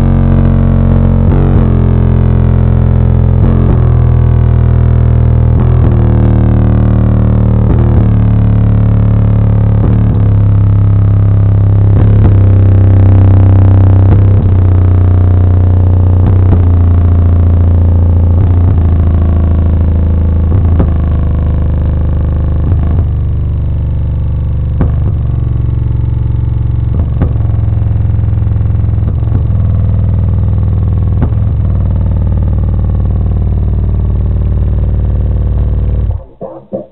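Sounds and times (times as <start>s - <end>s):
subwoofers playing deep bass note: 0.0s - 36.9s.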